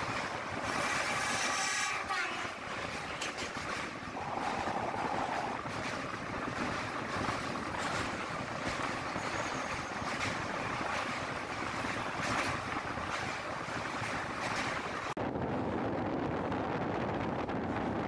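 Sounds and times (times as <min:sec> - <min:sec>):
train wheels on rails: 0:00.0 - 0:15.2
wind buffeting microphone: 0:00.0 - 0:18.0.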